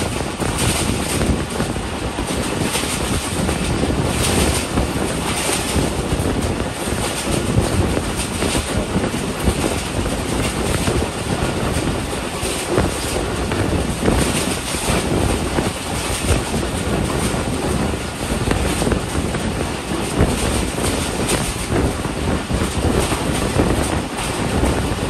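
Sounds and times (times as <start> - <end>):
train wheels rolling: 0.0 - 25.0
wheels knocking on rails: 0.0 - 25.0
wind rushing past train: 0.0 - 25.0.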